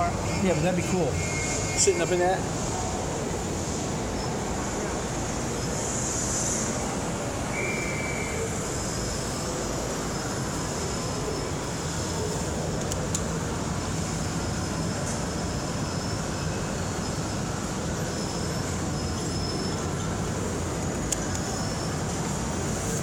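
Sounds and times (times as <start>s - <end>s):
hall rumble and hiss: 0.0s - 23.0s.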